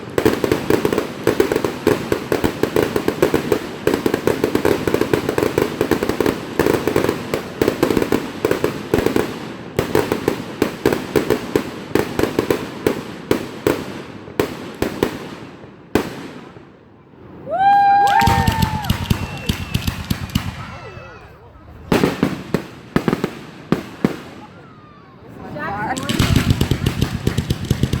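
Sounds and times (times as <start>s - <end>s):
fireworks popping and crackling: 0.0s - 16.6s, 17.8s - 20.9s, 21.9s - 24.6s, 25.4s - 28.0s.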